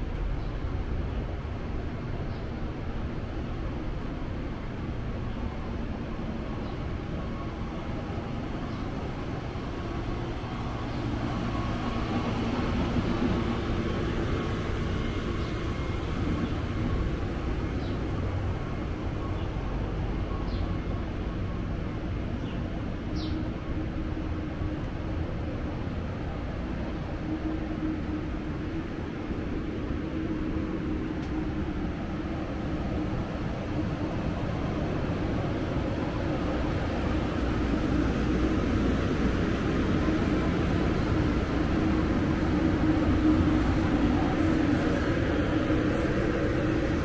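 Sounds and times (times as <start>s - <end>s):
passenger train rumbling: 0.0s - 47.0s.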